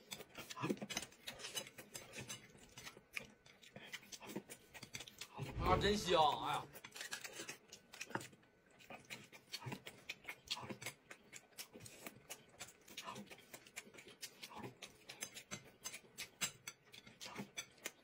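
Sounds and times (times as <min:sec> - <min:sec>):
people chewing dumplings: 0:00.0 - 0:18.0.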